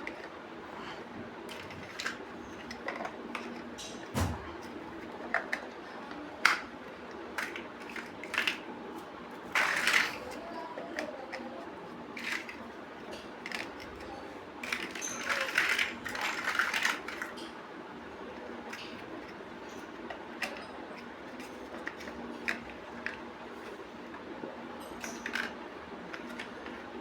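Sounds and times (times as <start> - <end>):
plastic bricks clicking and rattling: 1.5 - 3.9, 4.6 - 8.7, 9.4 - 17.5, 18.4 - 24.2, 24.9 - 27.0.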